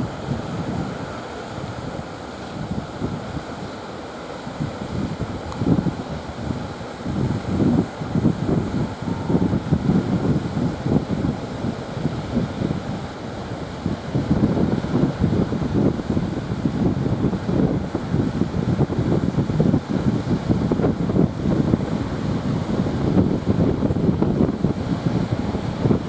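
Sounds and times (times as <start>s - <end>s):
wind buffeting microphone: 0.0s - 3.7s, 4.5s - 26.0s
sea surf rushing: 0.0s - 26.0s.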